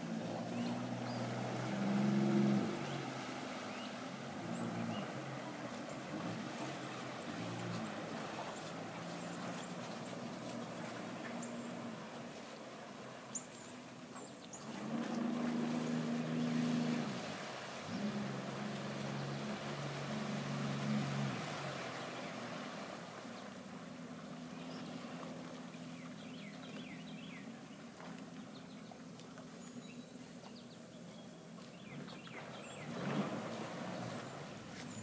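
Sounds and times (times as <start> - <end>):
jet ski engine humming: 0.0 - 35.0.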